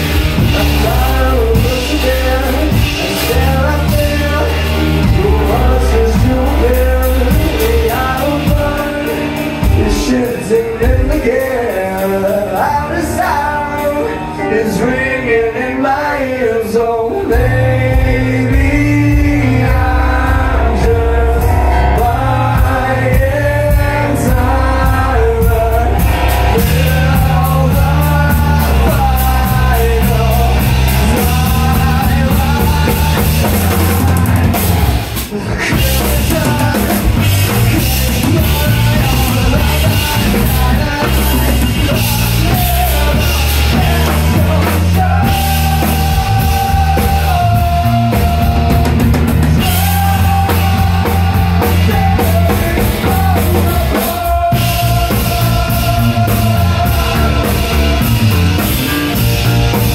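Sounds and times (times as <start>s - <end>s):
live rock band playing: 0.0s - 59.9s
person singing lead: 0.0s - 59.9s.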